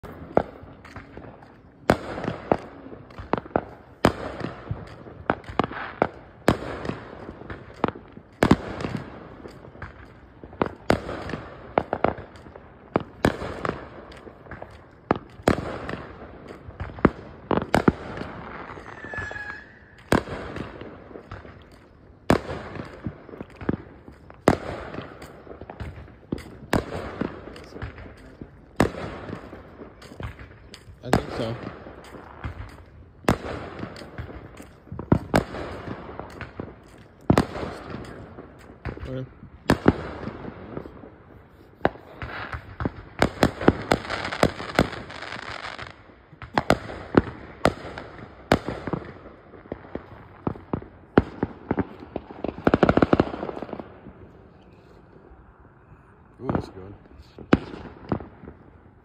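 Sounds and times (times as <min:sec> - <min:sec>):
fireworks bangs: 0:00.0 - 0:55.8, 0:56.4 - 0:59.0.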